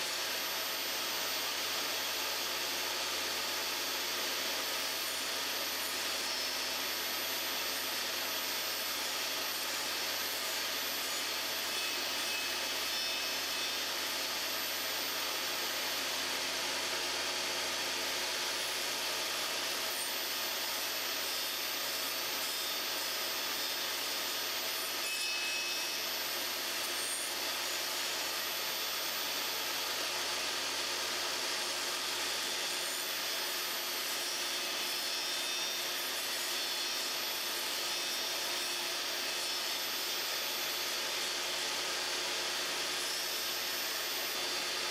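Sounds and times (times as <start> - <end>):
table saw cutting plywood: 0.0 - 44.9.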